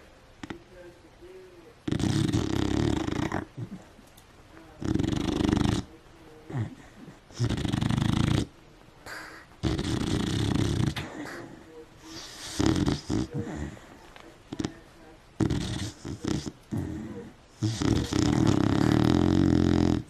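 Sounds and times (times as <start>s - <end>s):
dog snoring: 0.4s - 0.6s, 1.8s - 4.0s, 4.8s - 20.0s
dog breathing: 1.8s - 4.0s, 4.7s - 20.0s.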